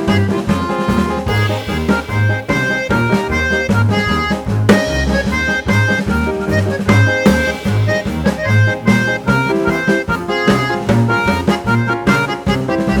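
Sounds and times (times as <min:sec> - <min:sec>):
music with steady beat: 0:00.0 - 0:13.0.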